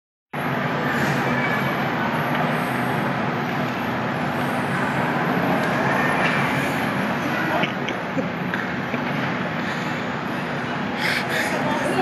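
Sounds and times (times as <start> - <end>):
low mechanical hum: 0.4 - 12.0
terminal hall noise: 0.4 - 12.0.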